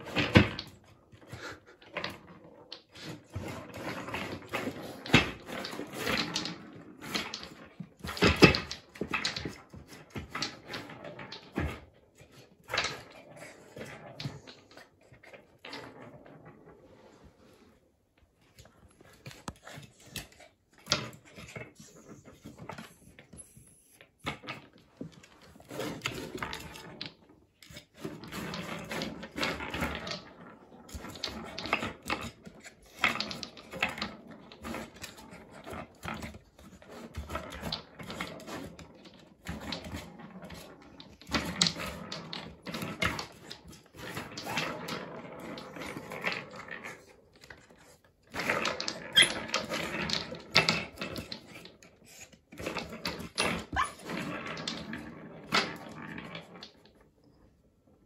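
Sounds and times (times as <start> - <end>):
wooden balls rolling in tracks: 0.0 - 58.0.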